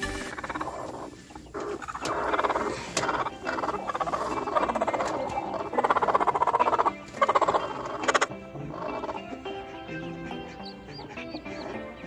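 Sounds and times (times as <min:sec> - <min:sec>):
hens growling: 0:00.0 - 0:12.0.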